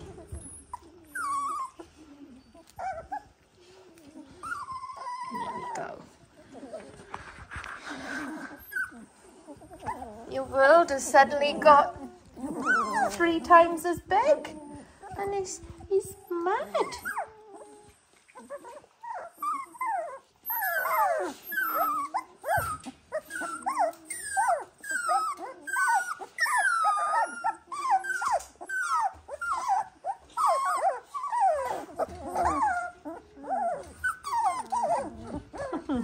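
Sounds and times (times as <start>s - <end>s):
puppies whining and squealing: 0.0s - 36.0s.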